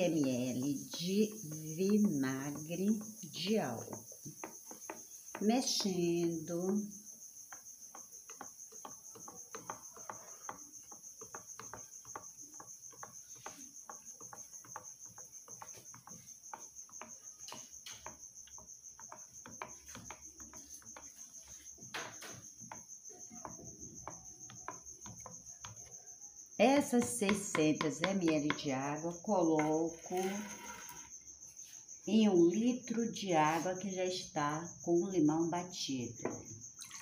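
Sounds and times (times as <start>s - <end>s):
wooden spoon tapping plastic jug: 0.0s - 31.1s, 36.2s - 37.0s.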